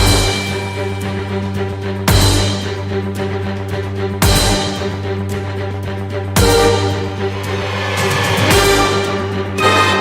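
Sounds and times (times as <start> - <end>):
background music low notes: 0.0 - 10.0.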